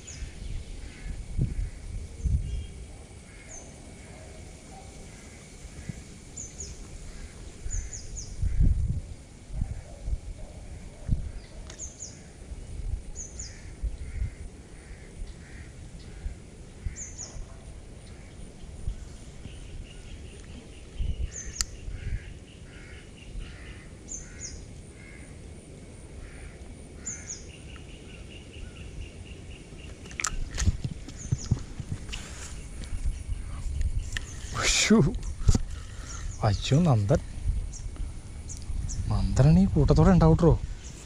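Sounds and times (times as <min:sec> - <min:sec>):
lower evenly spaced bird calls: 0:00.0 - 0:41.0.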